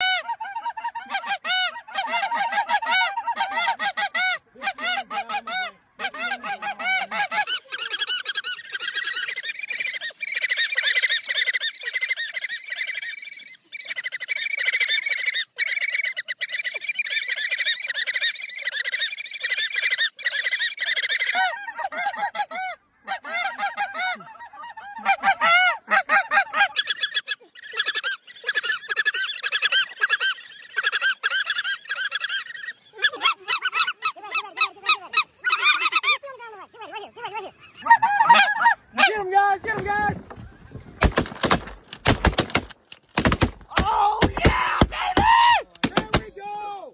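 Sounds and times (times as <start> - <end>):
waterfowl honking: 0.0 - 36.2, 37.1 - 46.4.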